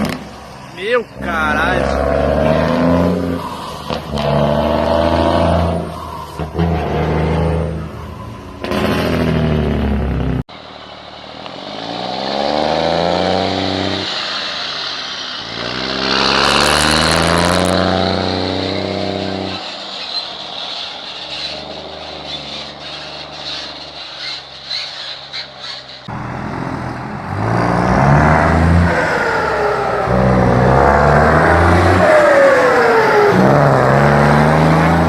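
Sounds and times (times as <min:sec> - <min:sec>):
diesel truck engines revving: 0:00.0 - 0:35.0.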